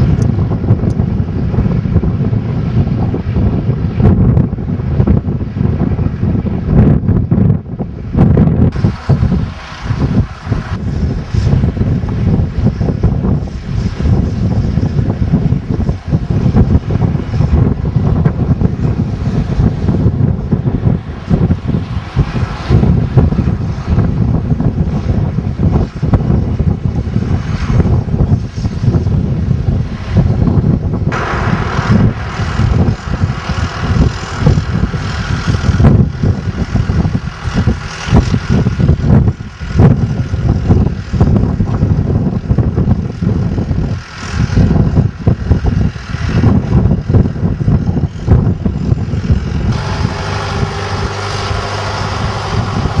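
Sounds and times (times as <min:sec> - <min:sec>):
tractor engine running: 0:00.0 - 0:53.0
wind rumbling on microphone: 0:00.0 - 0:53.0.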